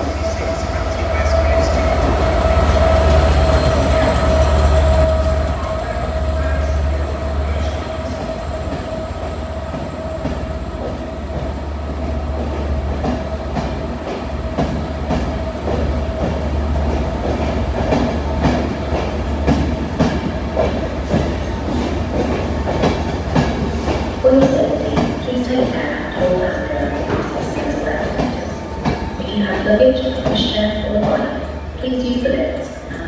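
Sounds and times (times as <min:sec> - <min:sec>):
locomotive engine rumbling: 0:00.0 - 0:33.0.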